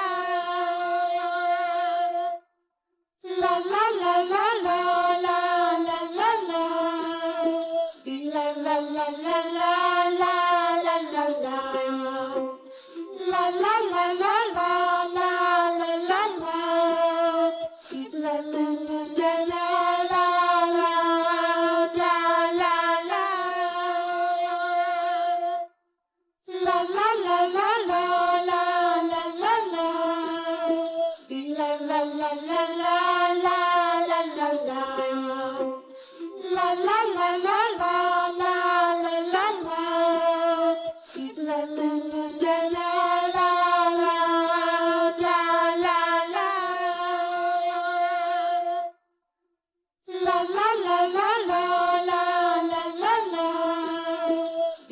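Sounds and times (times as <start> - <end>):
child-like voice singing wordlessly: 0.0 - 2.4, 3.2 - 25.7, 26.5 - 48.9, 50.1 - 54.9.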